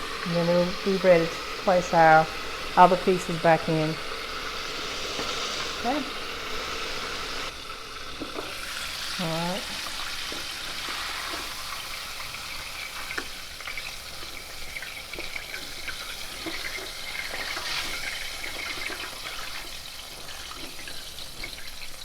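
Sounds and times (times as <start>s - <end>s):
chicken deep-frying in oil: 0.0s - 22.0s
oil crackles and pops: 4.1s - 22.0s.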